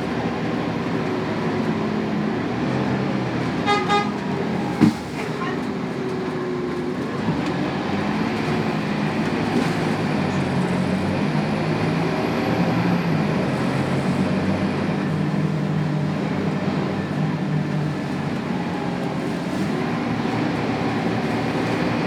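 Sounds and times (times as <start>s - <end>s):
bus diesel engine: 0.0s - 22.0s
road noise: 0.0s - 22.0s.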